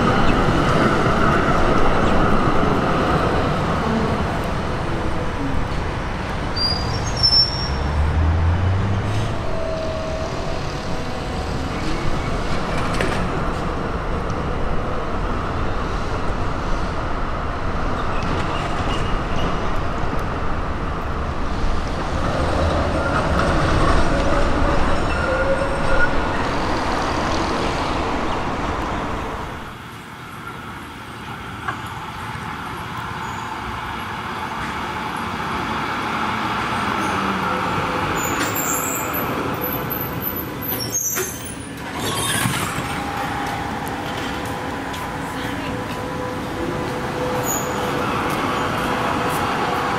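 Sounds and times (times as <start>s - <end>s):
road traffic: 0.0s - 49.9s
tram running on street track: 0.0s - 49.9s.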